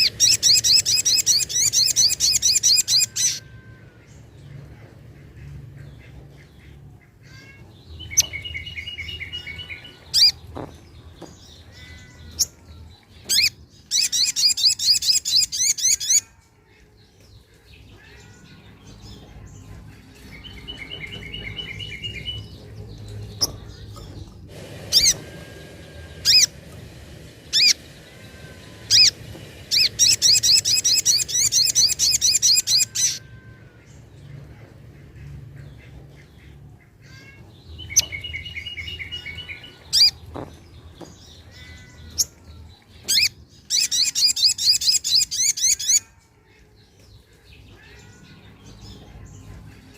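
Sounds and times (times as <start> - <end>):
bird calling: 0.0 - 16.3, 20.1 - 46.1.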